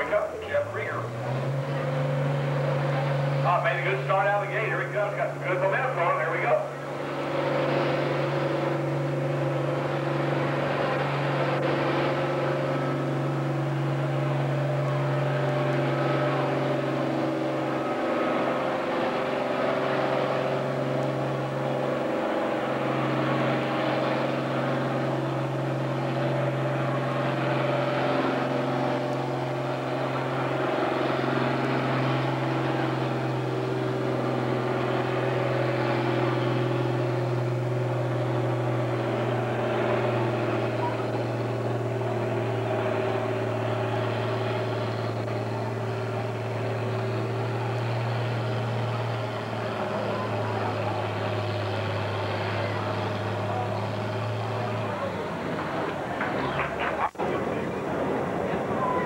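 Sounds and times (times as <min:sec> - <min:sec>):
diesel tractor engine under load: 0:00.0 - 0:59.0.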